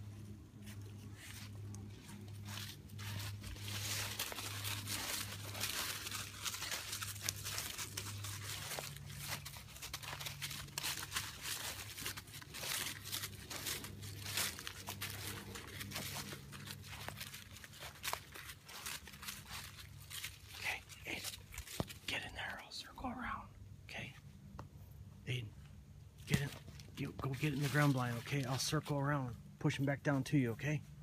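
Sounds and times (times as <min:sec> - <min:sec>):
footsteps crunching dry leaves: 0:00.0 - 0:22.6, 0:26.2 - 0:29.4.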